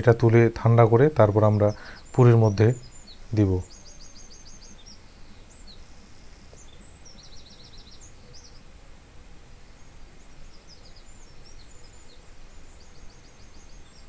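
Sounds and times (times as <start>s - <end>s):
small birds chirping: 0.0s - 8.8s, 9.5s - 14.0s.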